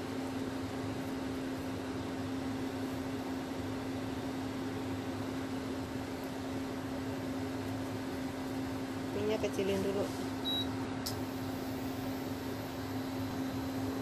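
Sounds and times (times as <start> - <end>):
appliance hum with fan hiss: 0.0 - 14.0.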